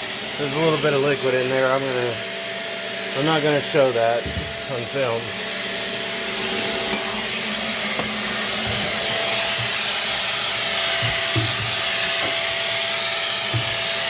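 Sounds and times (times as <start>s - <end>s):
vacuum cleaner suction whine: 0.0s - 14.0s.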